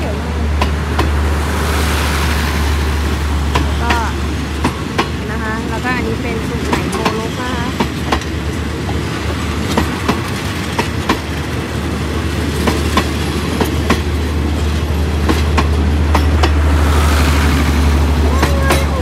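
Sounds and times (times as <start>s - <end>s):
train rumble: 0.0s - 19.0s
train wheels clicking on track: 0.0s - 19.0s.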